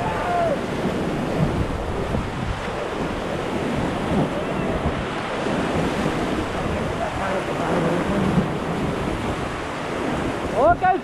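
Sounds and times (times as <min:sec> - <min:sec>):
rushing white water: 0:00.0 - 0:11.0
wind buffeting microphone: 0:00.0 - 0:11.0.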